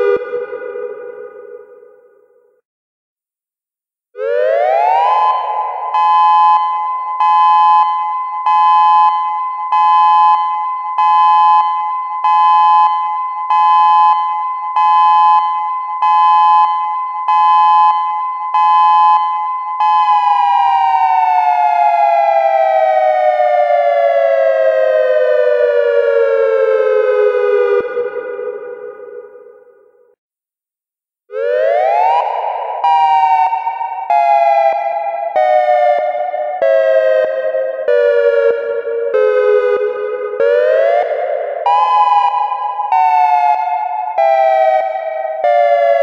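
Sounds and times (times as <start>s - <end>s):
pulsing two-tone warning siren: 0.0s - 2.6s, 4.2s - 30.2s, 31.3s - 46.0s.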